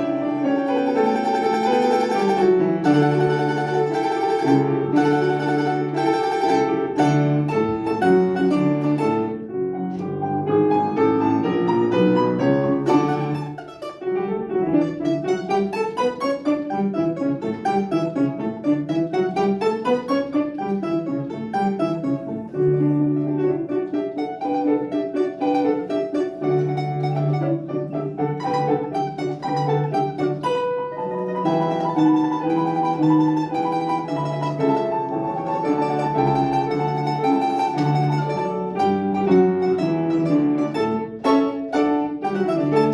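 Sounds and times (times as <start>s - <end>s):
classical instrumental music: 0.0s - 42.9s.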